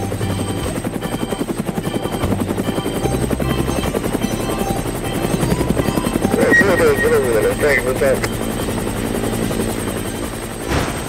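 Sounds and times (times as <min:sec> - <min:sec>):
simple backing tune: 0:00.0 - 0:09.3
cartoon helicopter rotor chop: 0:00.0 - 0:11.0.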